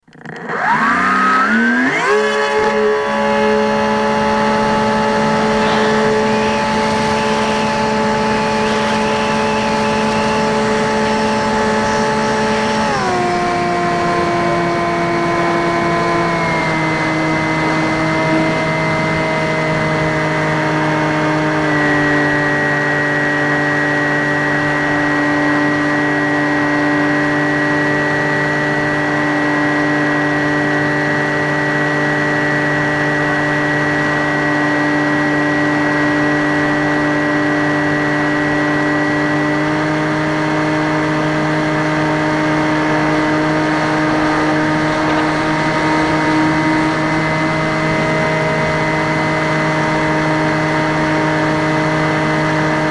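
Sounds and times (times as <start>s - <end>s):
electric motor and propeller whining: 0.0s - 52.9s.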